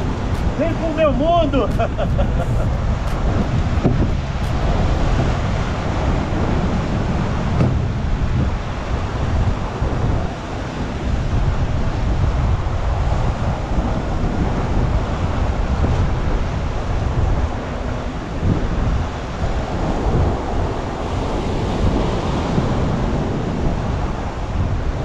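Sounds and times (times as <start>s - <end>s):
surf breaking on rocks: 0.0s - 24.6s
wind buffeting microphone: 0.0s - 25.0s.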